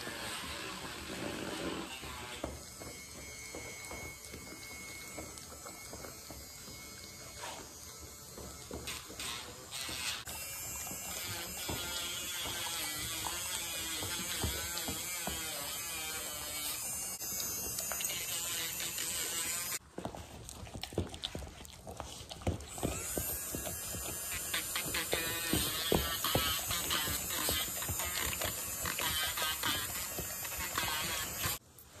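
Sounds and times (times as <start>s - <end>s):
rotary tool whirring: 0.0s - 19.8s, 20.8s - 31.6s.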